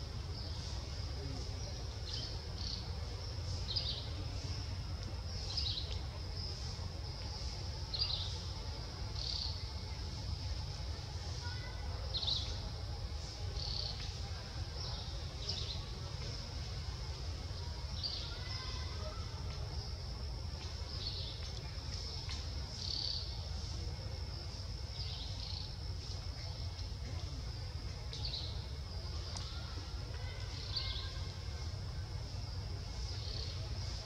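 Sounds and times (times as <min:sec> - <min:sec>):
high insect drone: 0:00.0 - 0:34.0.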